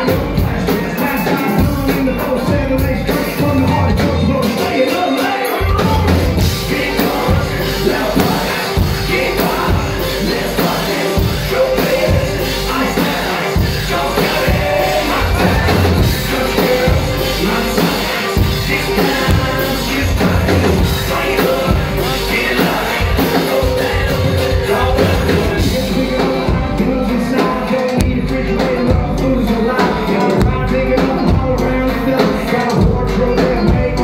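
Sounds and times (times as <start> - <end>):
full band with drums: 0.0 - 34.0.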